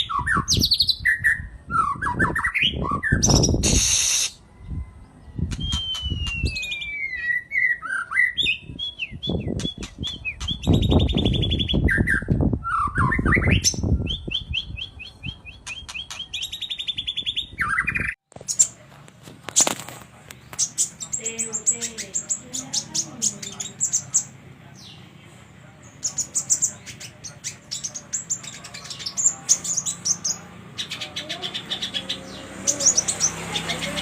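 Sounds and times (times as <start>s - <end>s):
songbirds singing: 0.0s - 34.0s.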